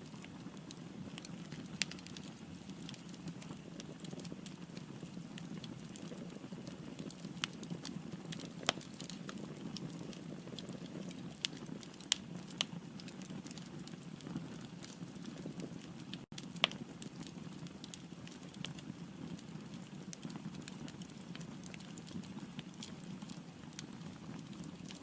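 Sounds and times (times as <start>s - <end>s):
fire rumbling: 0.0s - 25.0s
wood crackling and popping: 0.0s - 25.0s.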